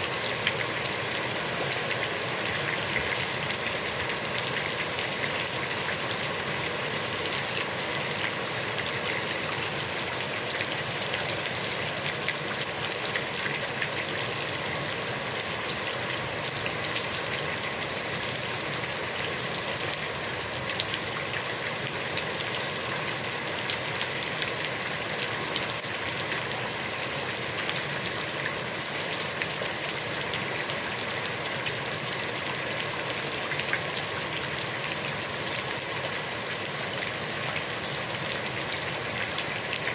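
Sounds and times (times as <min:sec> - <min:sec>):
heavy rain on pond water: 0:00.0 - 0:39.9.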